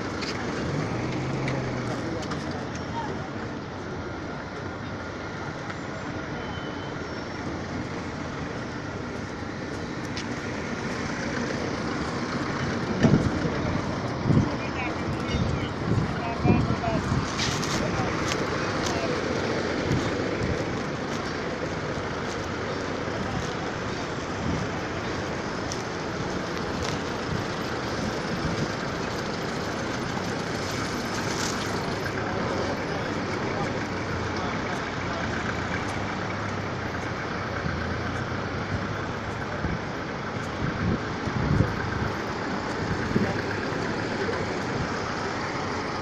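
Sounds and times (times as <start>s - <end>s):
street rumble and hubbub: 0.0s - 46.0s.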